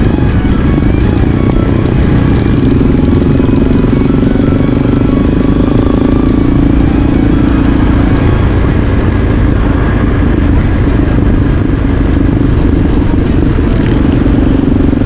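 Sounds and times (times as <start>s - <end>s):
low hum: 0.0s - 15.0s
motorcycle engine rumbling: 0.0s - 15.0s.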